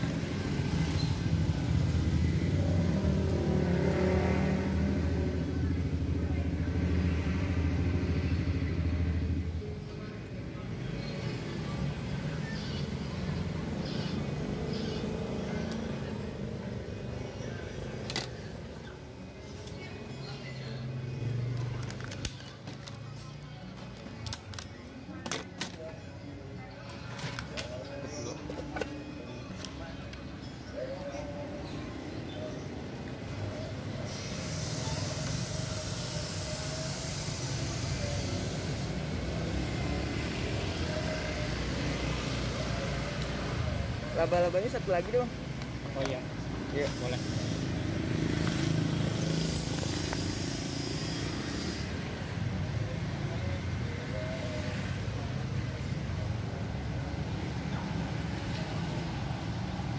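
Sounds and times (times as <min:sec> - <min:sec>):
faint voices: 0:00.0 - 0:59.9
low rumble of street traffic: 0:00.0 - 0:59.9.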